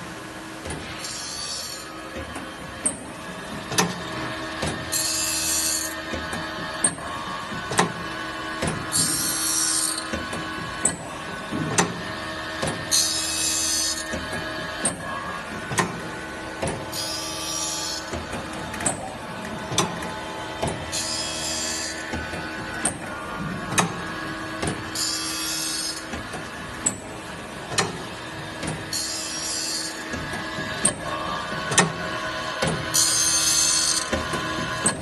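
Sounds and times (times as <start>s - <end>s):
motor hum: 0.0s - 35.0s.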